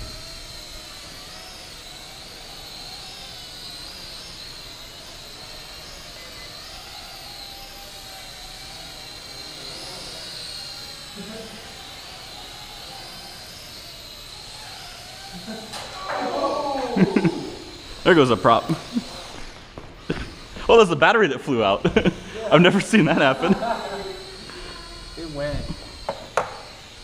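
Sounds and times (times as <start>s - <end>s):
toy drone propeller whine: 0.0s - 27.0s.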